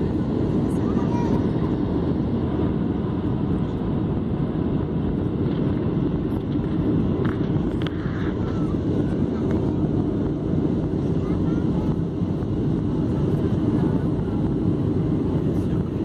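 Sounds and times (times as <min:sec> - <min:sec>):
airliner cabin engine roar: 0:00.0 - 0:16.0.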